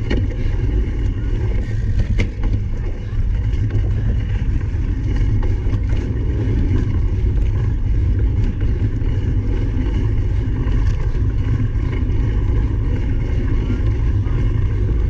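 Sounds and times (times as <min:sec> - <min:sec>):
low wind rumble on microphone: 0:00.0 - 0:15.0.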